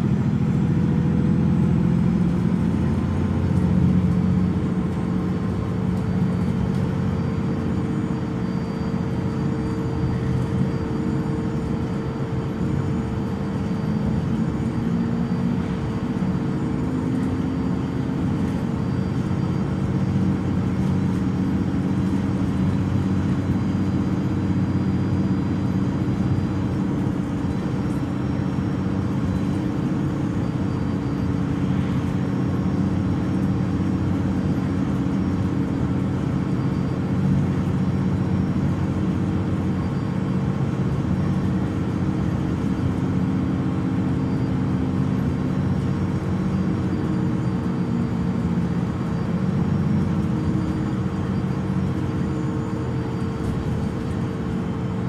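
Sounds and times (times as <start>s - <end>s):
bus diesel engine idling: 0.0s - 55.0s
constant engine whine: 0.0s - 55.0s.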